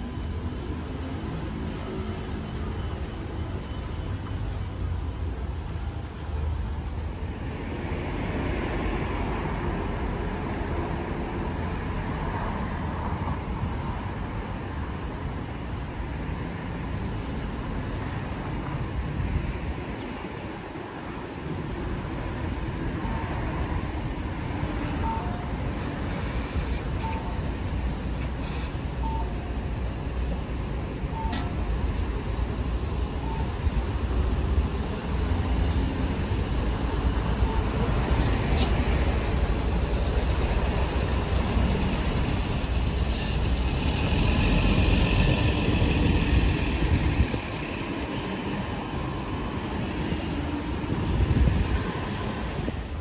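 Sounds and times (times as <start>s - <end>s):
diesel bus engine rumble: 0.0s - 53.0s.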